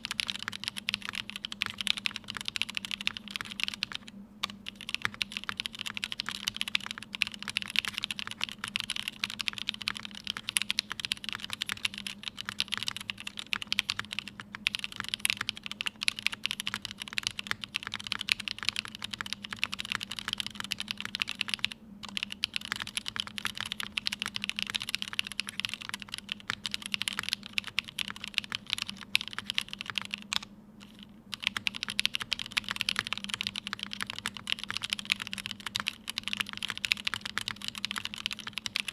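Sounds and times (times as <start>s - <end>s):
faint steady hum: 0.0s - 38.9s
fast typing on mechanical keyboard: 0.0s - 38.9s.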